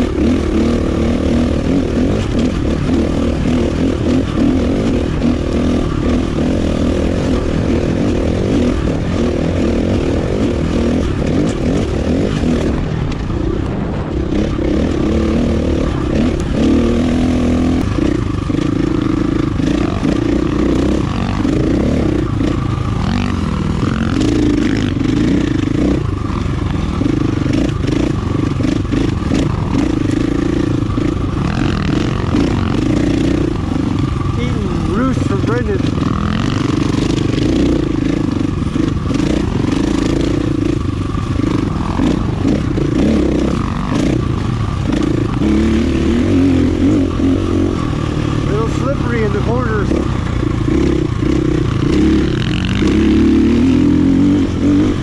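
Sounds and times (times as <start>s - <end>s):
dirt bike engine revving: 0.0s - 55.0s
rattles and clatter: 0.0s - 55.0s.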